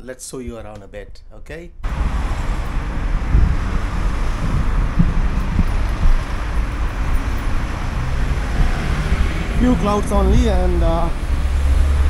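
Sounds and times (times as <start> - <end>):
road traffic passing: 1.8 - 12.0
wind rumble on microphone: 1.8 - 12.0.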